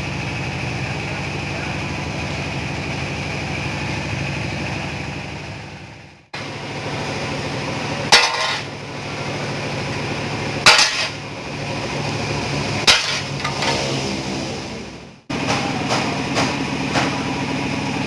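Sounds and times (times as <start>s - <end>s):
steady motor hum: 0.0s - 5.0s, 6.1s - 18.0s.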